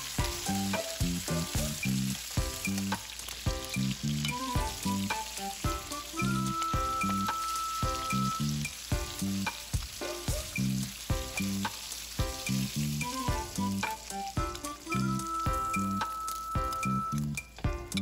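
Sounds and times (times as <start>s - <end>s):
background music with steady beat: 0.0s - 18.0s
meat sizzling in butter: 0.0s - 18.0s.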